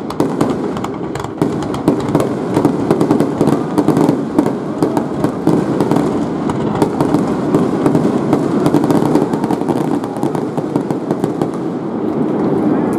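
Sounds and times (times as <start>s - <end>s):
firework bursts rumbling: 0.0s - 12.9s
firework cracks and crackling: 0.0s - 12.9s.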